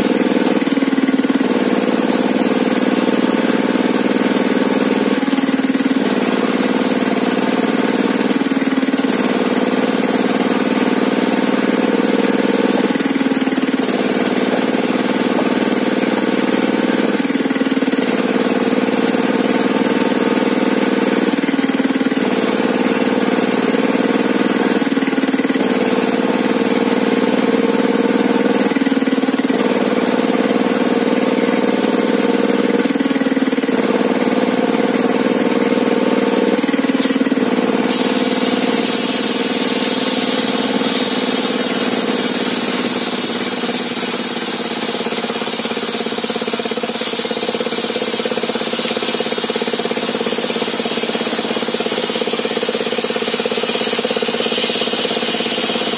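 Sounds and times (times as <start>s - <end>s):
table saw engine running: 0.0s - 55.9s.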